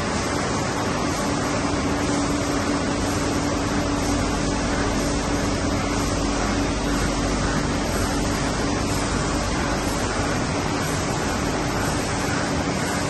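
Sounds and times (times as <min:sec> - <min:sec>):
constant low hum: 0:00.0 - 0:13.0
label press machine whirring: 0:00.0 - 0:13.0.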